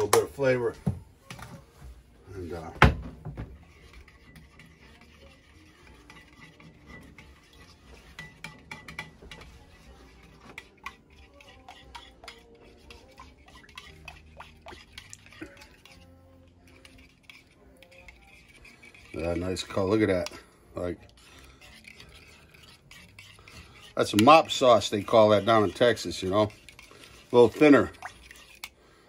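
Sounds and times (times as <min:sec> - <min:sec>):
spoon stirring in ceramic bowl: 0:03.4 - 0:29.0.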